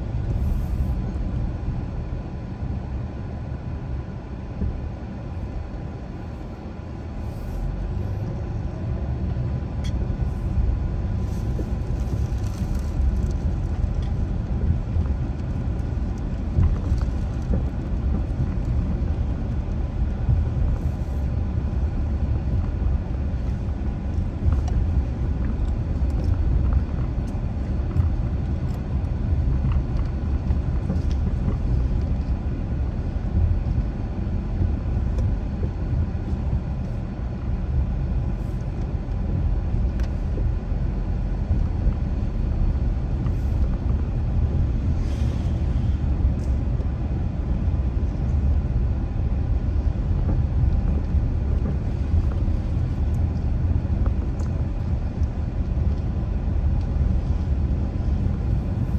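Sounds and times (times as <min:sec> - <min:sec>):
car tyre and engine rumble: 0:00.0 - 0:58.9.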